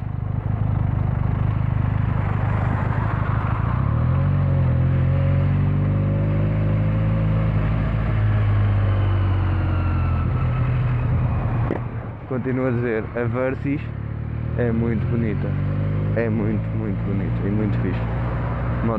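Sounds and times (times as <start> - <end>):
motorcycle engine and exhaust: 0.0 - 18.9.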